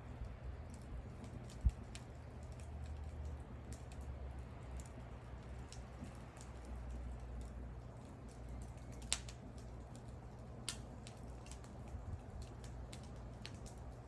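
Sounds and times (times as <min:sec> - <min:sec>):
low steady rumble: 0:00.0 - 0:14.0
wood fire crackling: 0:00.0 - 0:14.0.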